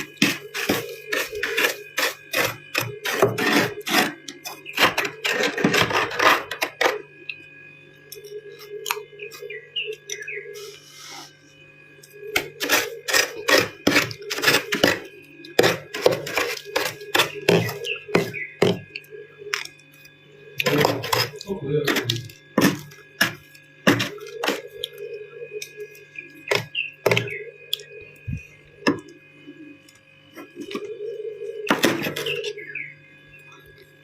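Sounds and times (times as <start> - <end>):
ice crunching as chewed: 0.0 - 10.8, 12.0 - 29.2, 33.3 - 34.0.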